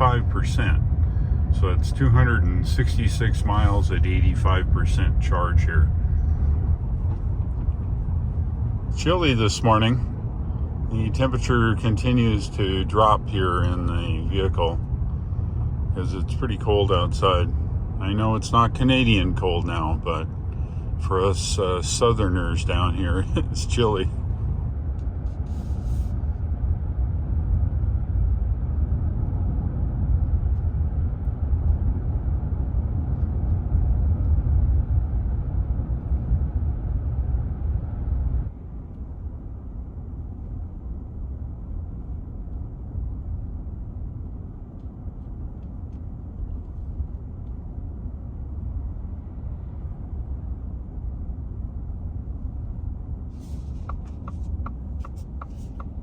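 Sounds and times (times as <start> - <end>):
road and tire rumble in car cabin: 0.0 - 56.0.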